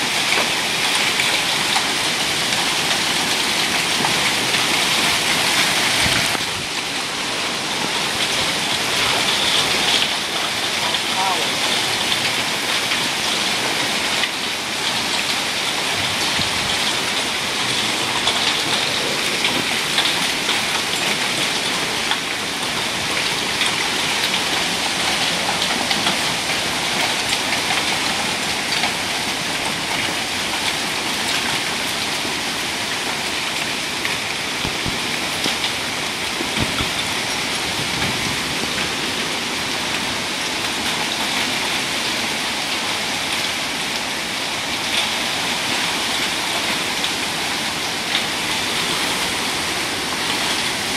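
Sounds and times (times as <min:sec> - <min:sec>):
torrential rain splashing: 0:00.0 - 0:50.9.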